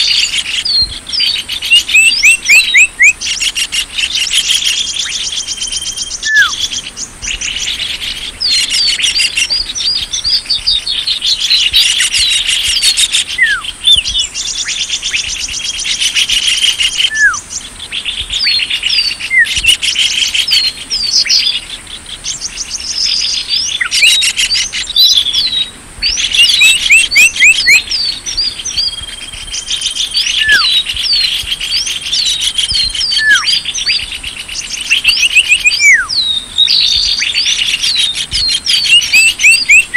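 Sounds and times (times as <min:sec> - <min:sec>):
small birds chirping: 0:00.0 - 0:39.9
steady high hiss: 0:00.0 - 0:39.9.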